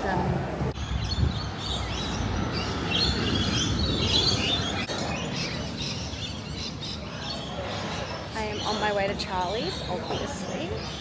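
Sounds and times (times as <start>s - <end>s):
birds chirping: 0.0s - 11.0s
low rumble of traffic: 0.0s - 11.0s.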